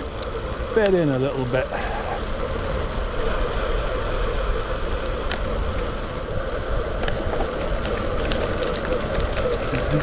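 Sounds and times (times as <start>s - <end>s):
tyres rolling on road: 0.0s - 10.0s
wind rushing over camera: 0.0s - 10.0s.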